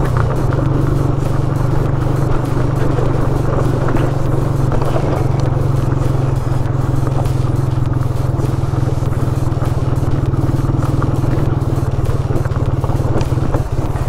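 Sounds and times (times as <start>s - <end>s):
bike knocks and rattles: 0.0s - 14.0s
motorcycle engine running: 0.0s - 14.0s.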